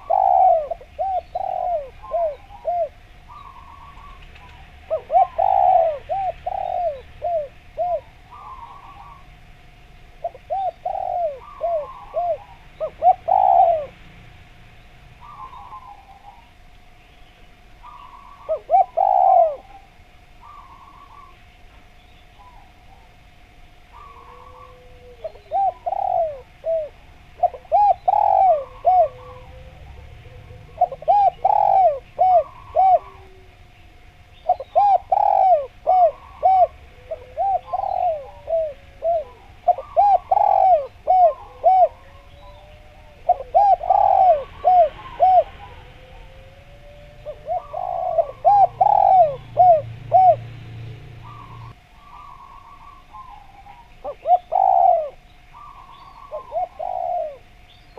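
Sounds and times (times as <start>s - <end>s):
dove cooing: 0.0s - 14.2s, 15.1s - 16.7s, 17.8s - 21.6s, 23.8s - 57.9s.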